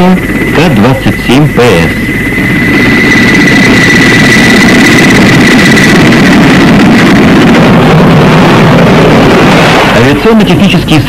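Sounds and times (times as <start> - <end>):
aircraft turbine engines running: 0.0 - 11.0
high steady whine: 0.0 - 11.0.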